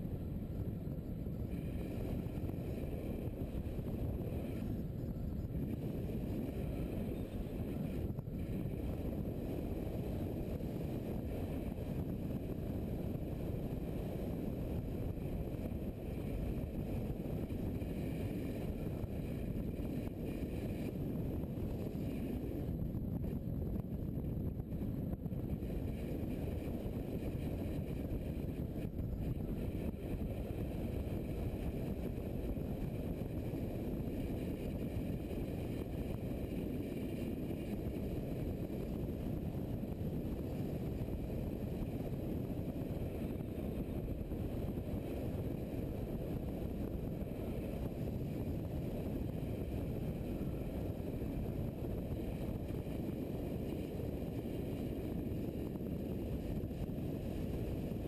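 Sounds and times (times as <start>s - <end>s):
wind noise: 0.0s - 58.0s.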